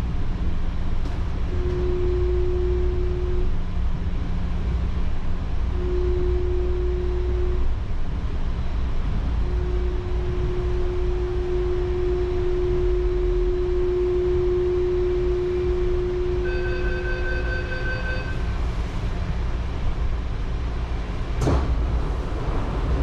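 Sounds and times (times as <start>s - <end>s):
steady humming tone: 0.0s - 23.0s
train rumbling: 0.0s - 23.0s.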